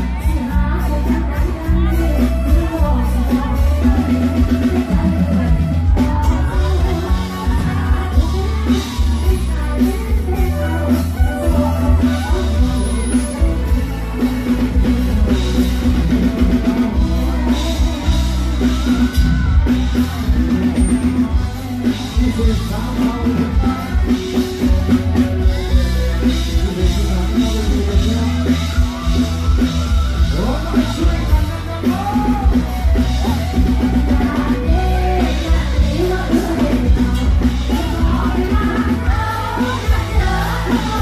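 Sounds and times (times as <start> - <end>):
woman singing into microphone: 0.0 - 29.6, 30.2 - 41.0
live band playing loudly: 0.0 - 41.0.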